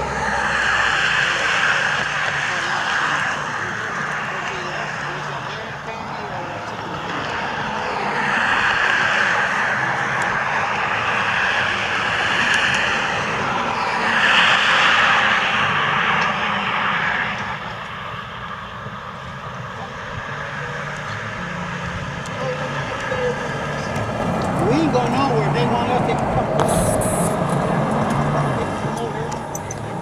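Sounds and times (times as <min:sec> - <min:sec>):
highway traffic rushing: 0:00.0 - 0:30.0.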